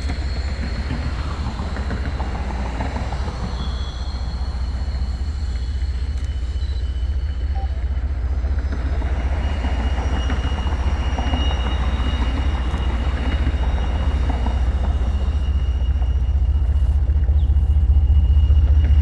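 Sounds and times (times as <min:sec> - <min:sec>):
freight train wheels rumbling: 0:00.0 - 0:19.0
steady high-pitched tone: 0:00.0 - 0:19.0.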